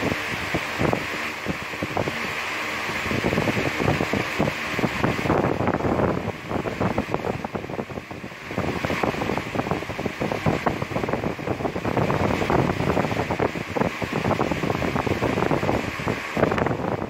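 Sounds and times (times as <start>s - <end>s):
air rushing with buffeting: 0.0s - 17.0s.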